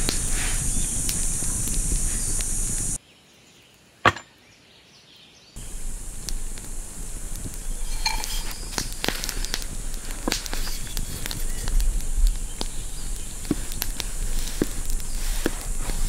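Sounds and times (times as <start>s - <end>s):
steady hiss: 0.0s - 3.0s, 5.6s - 16.0s.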